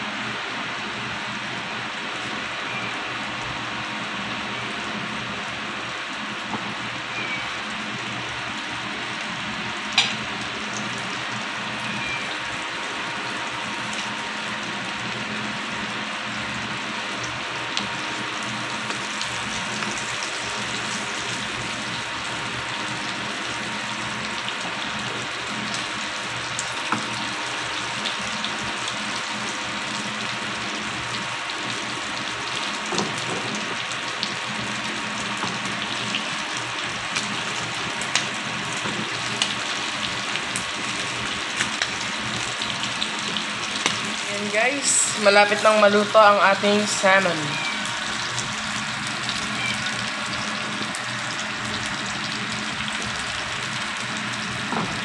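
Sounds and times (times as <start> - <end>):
fish frying in butter: 0.5 - 55.0.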